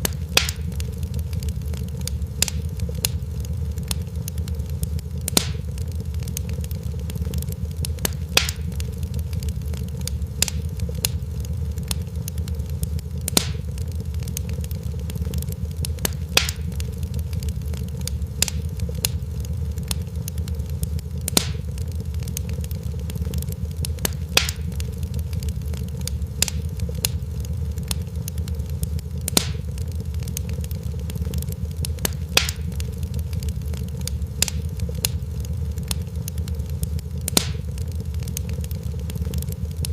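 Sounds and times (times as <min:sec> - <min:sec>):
fire crackling: 0:00.0 - 0:39.9
sharp pops of fire: 0:00.0 - 0:39.9
steady low rumble: 0:00.0 - 0:39.9.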